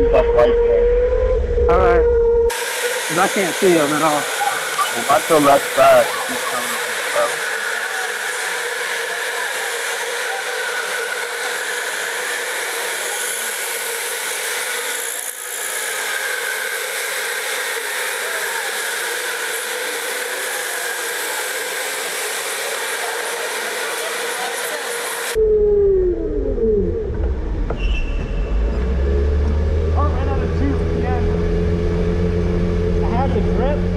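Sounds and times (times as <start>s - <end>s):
electric go-kart motor whine: 0.0s - 25.4s, 26.2s - 33.9s.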